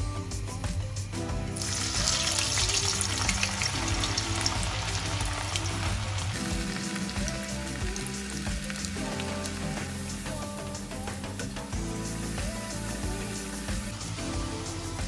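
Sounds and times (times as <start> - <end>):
potatoes deep-frying in oil: 1.6 - 14.1.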